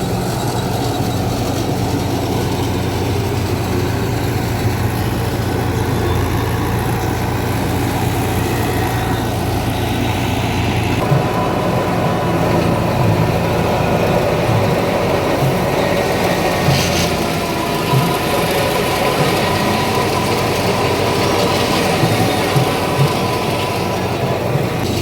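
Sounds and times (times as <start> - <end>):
thresher mechanical clatter: 0.0 - 25.0
tractor diesel engine running: 0.0 - 25.0.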